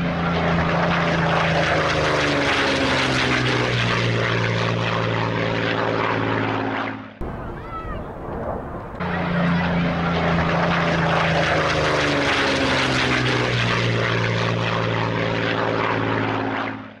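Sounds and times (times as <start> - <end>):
propeller aircraft engine droning: 0.0 - 17.0.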